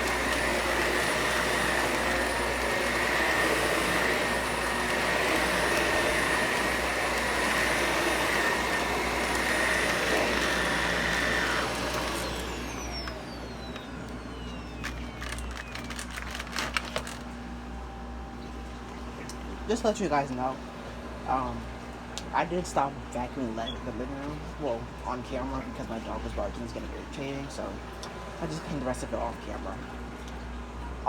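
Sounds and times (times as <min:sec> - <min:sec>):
vacuum cleaner whining: 0:00.0 - 0:30.5.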